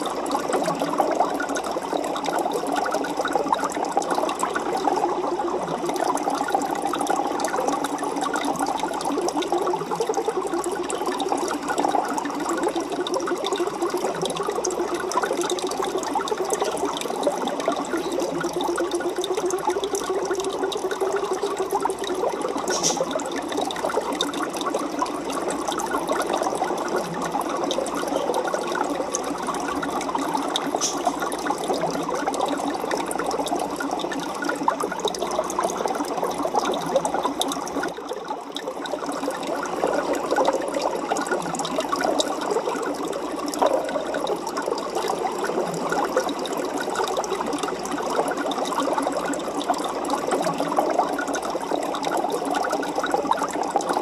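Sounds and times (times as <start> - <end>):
aquarium water bubbling: 0.0 - 54.0.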